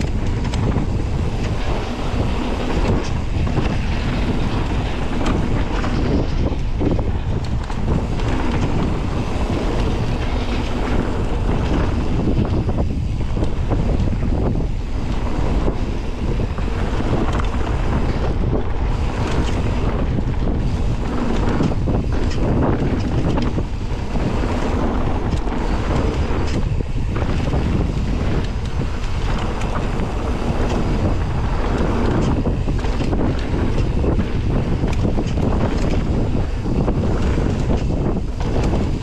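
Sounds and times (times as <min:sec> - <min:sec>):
bike rattling knocks: 0:00.0 - 0:39.0
wind buffeting microphone: 0:00.0 - 0:39.0.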